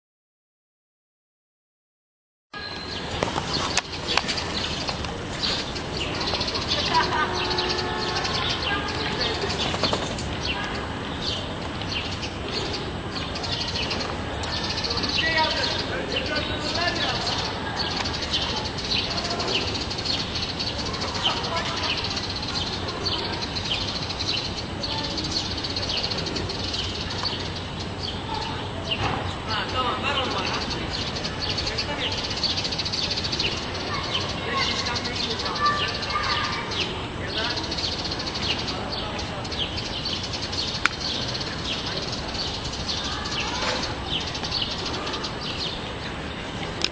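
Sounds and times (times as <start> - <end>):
high falling bird chirps: 2.6 - 46.2
steady background hiss: 2.6 - 46.9
steady rushing background noise: 2.6 - 46.9.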